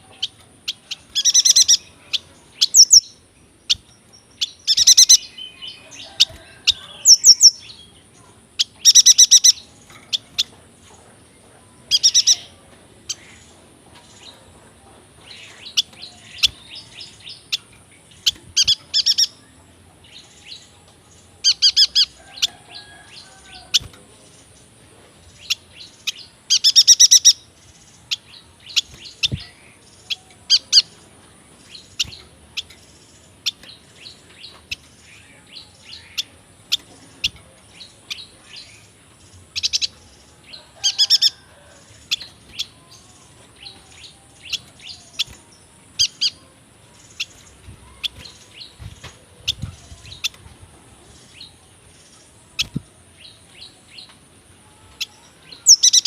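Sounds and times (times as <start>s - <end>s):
bird chirping and twittering: 0.0s - 56.0s.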